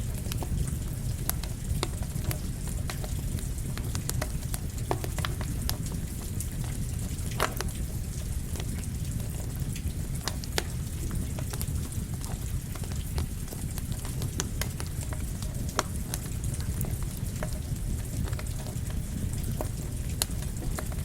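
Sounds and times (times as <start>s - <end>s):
campfire crackling and popping: 0.0s - 21.0s
steady rain: 0.0s - 21.0s.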